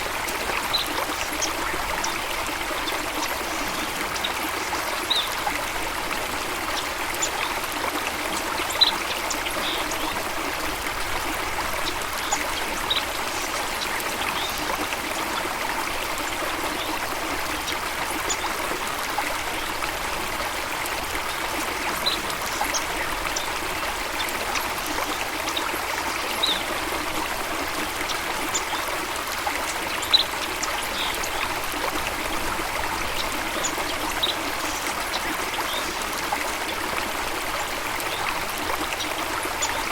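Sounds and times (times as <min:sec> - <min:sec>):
running stream water: 0:00.0 - 0:39.9.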